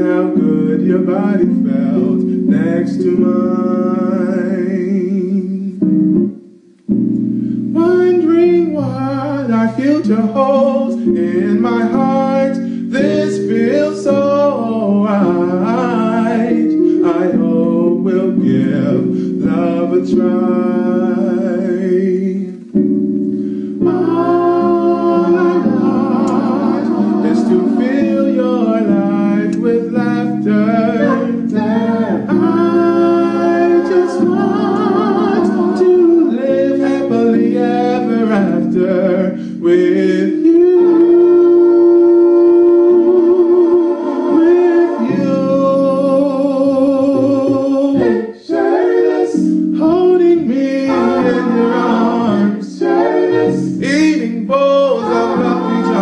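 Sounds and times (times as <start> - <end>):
man singing into a microphone: 0.0 - 5.8, 7.8 - 22.7, 23.8 - 48.6, 49.2 - 56.0
sustained backing chords: 0.0 - 56.0.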